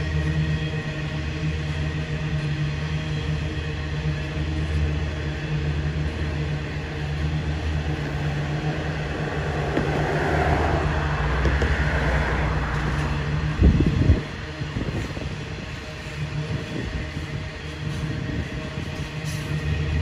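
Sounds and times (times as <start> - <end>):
train wagons rumbling on rails: 0.0 - 20.0.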